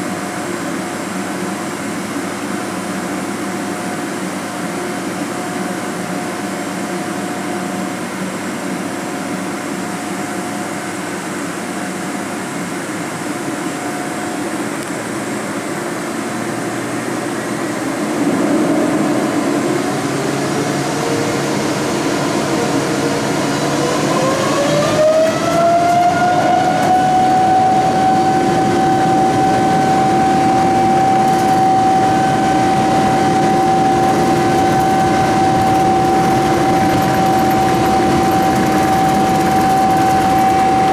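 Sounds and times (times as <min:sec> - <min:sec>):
jet engines spooling up: 0:00.0 - 0:40.9.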